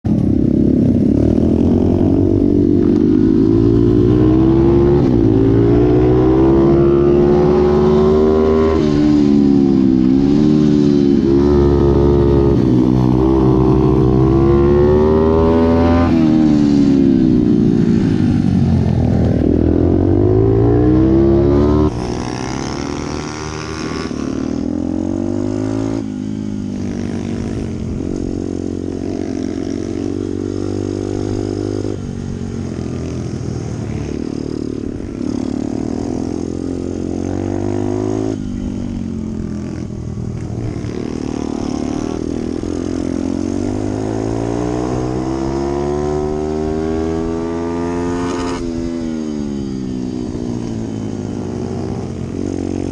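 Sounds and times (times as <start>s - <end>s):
pit bike engine racing: 0.0s - 52.9s.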